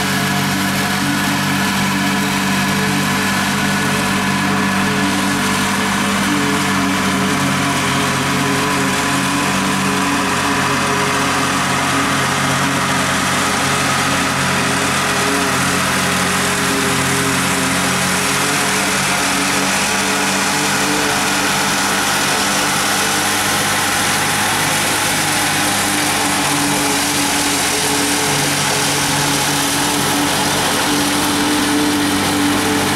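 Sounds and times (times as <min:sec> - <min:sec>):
forage harvester chopping corn: 0:00.0 - 0:32.9
tractor engine under load: 0:00.0 - 0:32.9.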